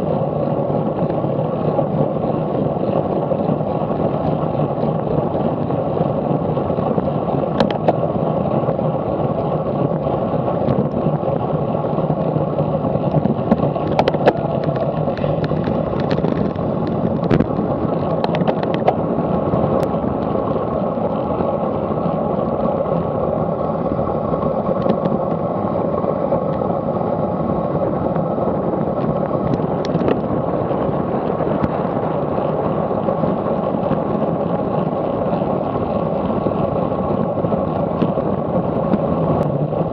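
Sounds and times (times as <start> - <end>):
bike ticks and rattles: 0.0 - 39.9
bike tyre noise on tarmac: 0.0 - 39.9
wind rush: 0.0 - 39.9.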